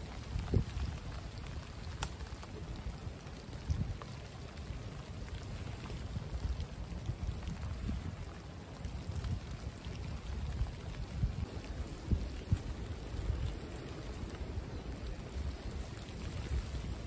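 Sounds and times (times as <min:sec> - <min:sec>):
rain pattering: 0:00.0 - 0:17.0
wind rumble on microphone: 0:00.0 - 0:17.0.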